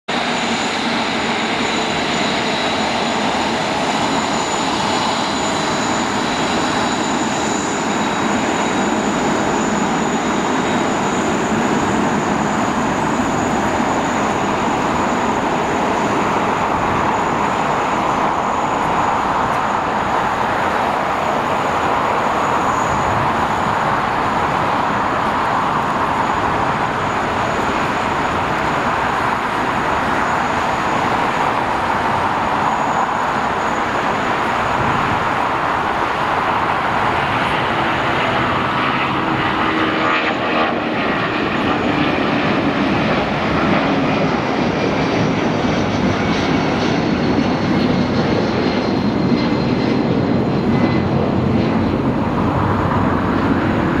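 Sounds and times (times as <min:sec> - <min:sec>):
loud jet engine roar: 0:00.0 - 0:54.0.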